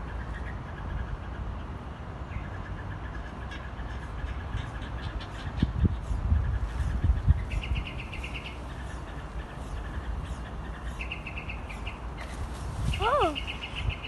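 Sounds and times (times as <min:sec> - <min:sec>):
wind rumble on microphone: 0:00.0 - 0:14.0
bird trilling: 0:02.3 - 0:14.0.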